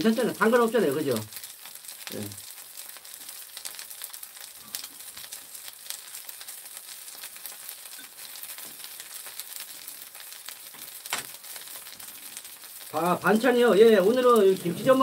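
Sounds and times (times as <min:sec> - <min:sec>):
pancake sizzling in oil: 0:00.0 - 0:15.0.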